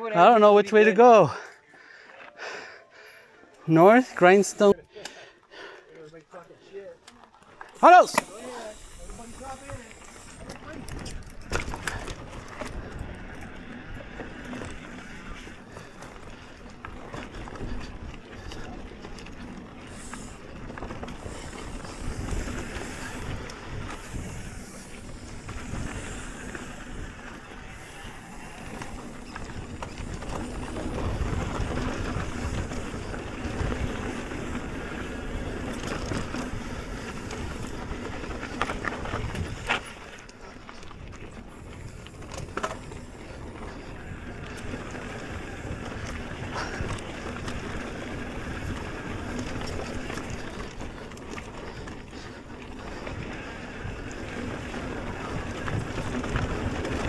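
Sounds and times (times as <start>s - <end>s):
bike tyres rolling over dirt: 3.6s - 4.8s, 5.4s - 57.0s
bike rattling: 3.7s - 4.8s, 5.6s - 57.0s.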